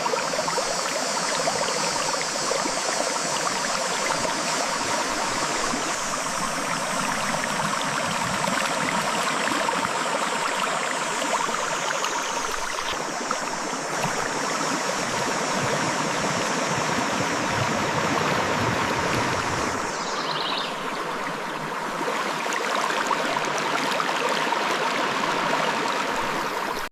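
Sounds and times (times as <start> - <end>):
river water flowing over rocks: 0.0 - 26.9.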